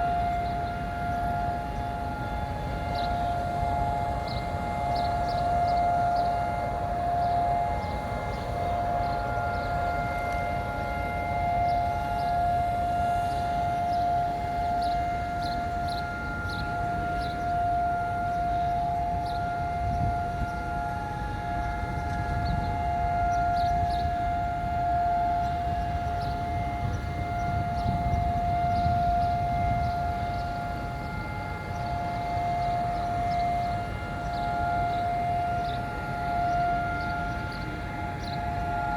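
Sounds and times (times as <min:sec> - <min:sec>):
steady siren tone: 0:00.0 - 0:38.9.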